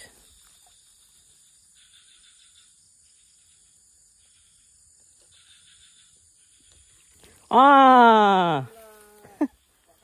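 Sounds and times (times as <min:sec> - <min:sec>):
lower insect buzzing call: 0:00.0 - 0:07.3, 0:08.3 - 0:10.0
insect chorus drone: 0:00.0 - 0:10.0.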